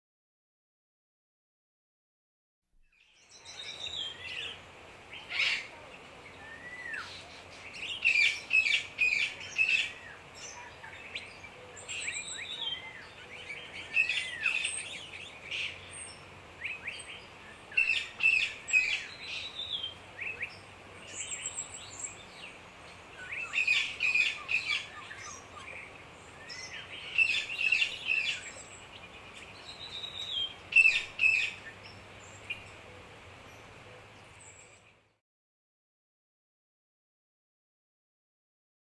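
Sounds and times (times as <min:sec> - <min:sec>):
birds chirping: 0:03.0 - 0:35.2.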